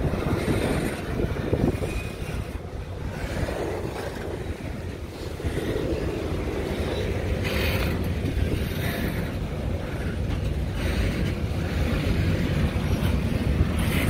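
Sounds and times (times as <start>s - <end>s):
train rumbling: 0.0s - 14.0s
wind buffeting microphone: 0.0s - 14.0s.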